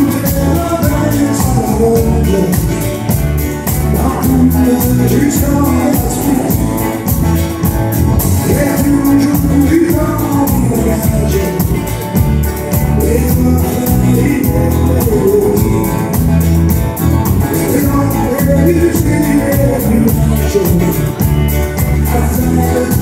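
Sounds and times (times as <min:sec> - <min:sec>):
acoustic guitar strumming: 0:00.0 - 0:23.0
bass and steady beat: 0:00.0 - 0:23.0
man singing: 0:00.0 - 0:23.0.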